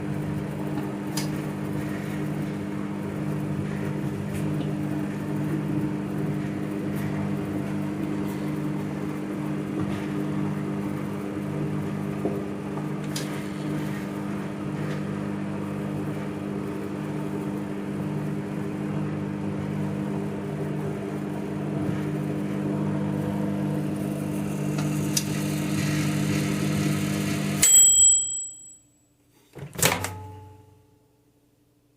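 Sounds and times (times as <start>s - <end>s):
microwave oven humming: 0.0s - 31.9s.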